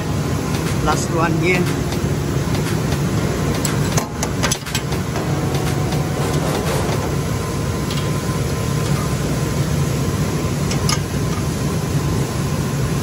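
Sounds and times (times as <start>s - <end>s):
factory machinery hum: 0.0s - 13.0s.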